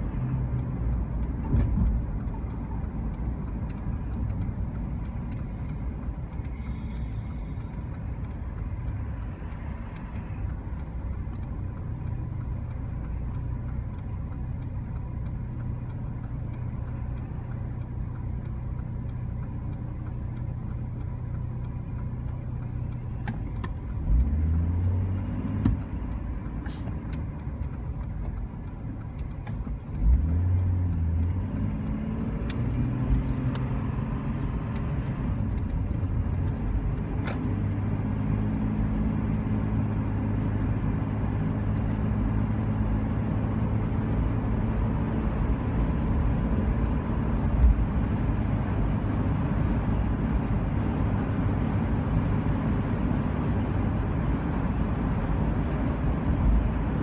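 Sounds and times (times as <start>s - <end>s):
road noise: 0.0s - 57.0s
vehicle engine rumble: 0.0s - 57.0s.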